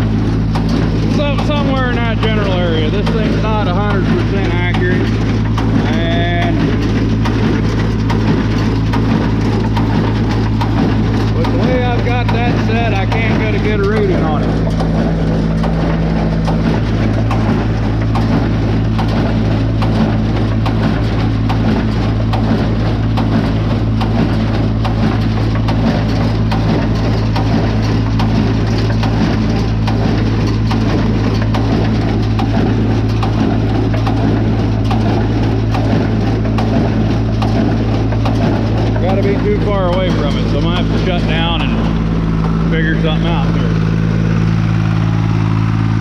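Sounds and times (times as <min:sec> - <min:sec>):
hay baler clattering: 0:00.0 - 0:46.0
tractor engine running: 0:00.0 - 0:46.0.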